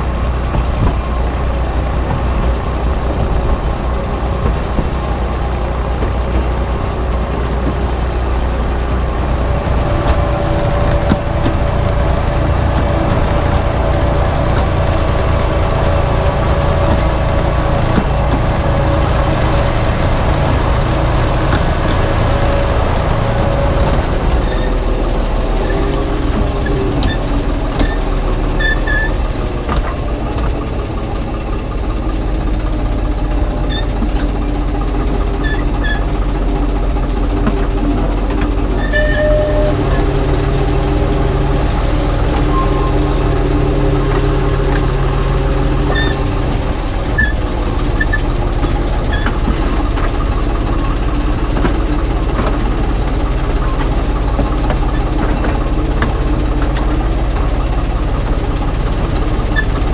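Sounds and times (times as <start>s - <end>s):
locomotive engine running: 0.0s - 59.9s
low rumble: 0.0s - 59.9s
wheel and track clicks: 0.0s - 59.9s.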